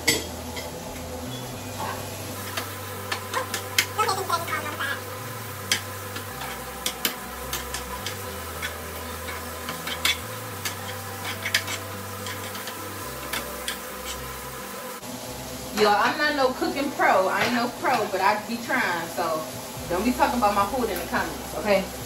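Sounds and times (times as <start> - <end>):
butter sizzling in frying pans: 0.1 - 22.0
vegetables stirred in a pan: 1.7 - 22.0.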